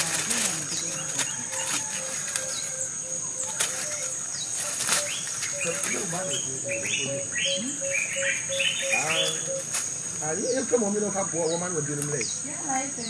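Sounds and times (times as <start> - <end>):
birds chirping: 0.0 - 13.0
dry leaves and twigs crackling: 0.0 - 13.0
high insect drone: 0.0 - 13.0.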